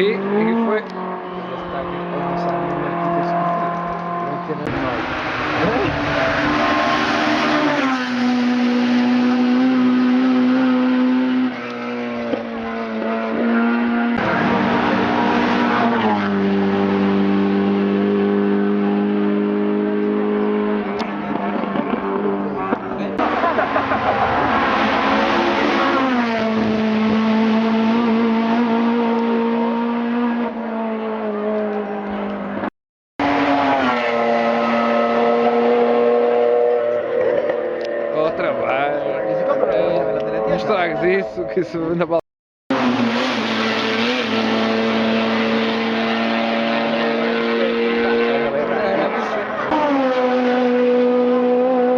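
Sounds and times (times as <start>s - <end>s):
racing car engine at high revs: 0.0s - 42.1s, 42.7s - 51.9s.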